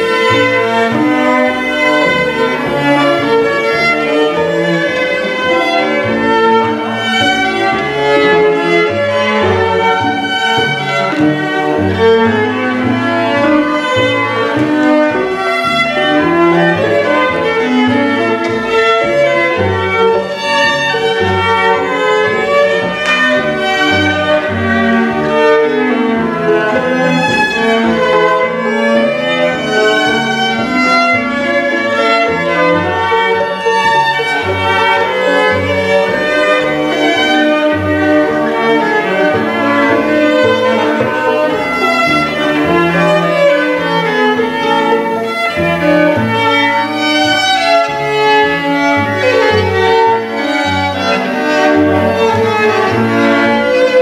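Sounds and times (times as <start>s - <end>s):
string ensemble playing dance tune: 0.0s - 54.0s.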